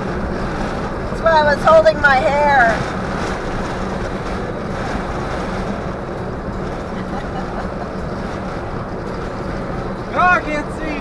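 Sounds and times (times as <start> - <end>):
engine and tyres droning: 0.0 - 11.0
wind buffeting microphone: 0.0 - 11.0.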